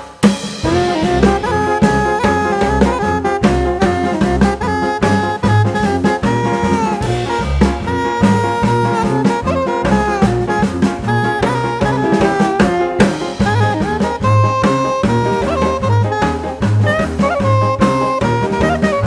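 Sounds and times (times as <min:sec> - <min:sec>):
steady drum beat: 0:00.0 - 0:19.0
upbeat jazz swing with horns: 0:00.2 - 0:19.0.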